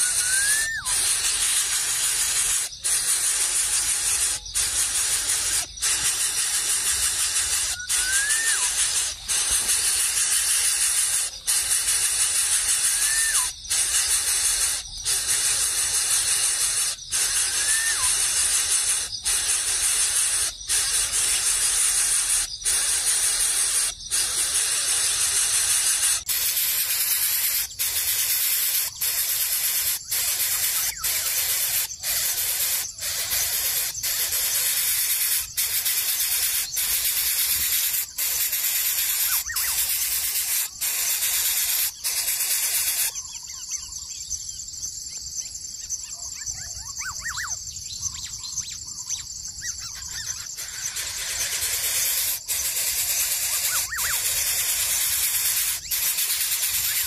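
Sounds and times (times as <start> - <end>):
bird nestling hissing: 0.0 - 43.2, 50.4 - 57.0
faint bird chirps: 0.0 - 57.0.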